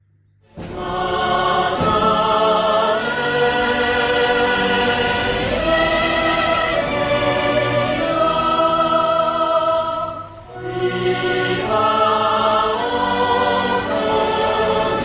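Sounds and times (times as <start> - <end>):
choir-like sustained voices: 0.6 - 9.8, 10.5 - 15.0.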